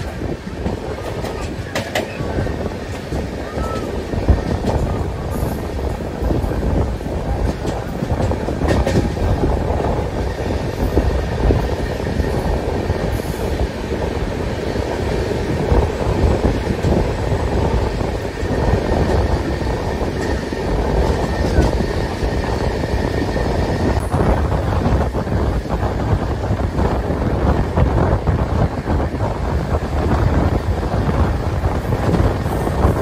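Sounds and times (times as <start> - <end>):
rushing air: 0.0 - 33.0
train wheels rumbling on rails: 0.0 - 33.0.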